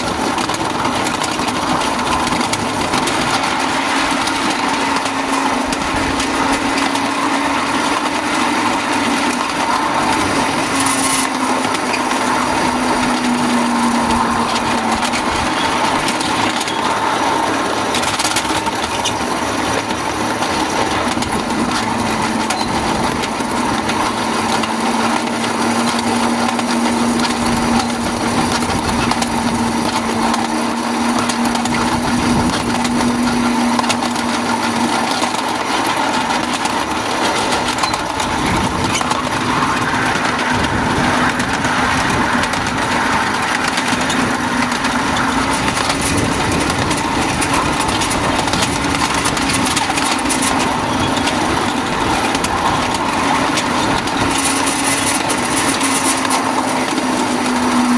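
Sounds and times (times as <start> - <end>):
engine hum: 0.0 - 57.9
train wheels clattering on rails: 0.0 - 57.9.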